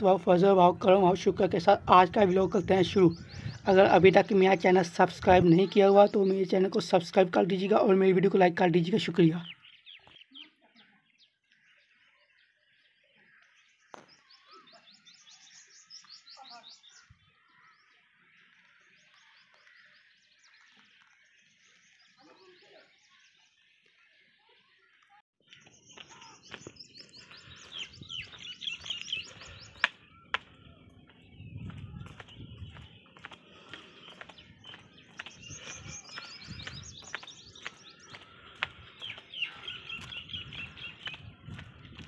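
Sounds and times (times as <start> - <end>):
background bird chorus: 0.0 - 42.0
birds singing: 0.0 - 42.0.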